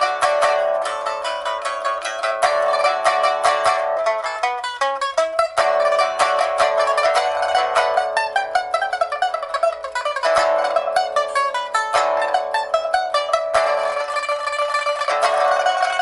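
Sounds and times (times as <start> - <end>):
pipa plucked fast: 0.0 - 16.0.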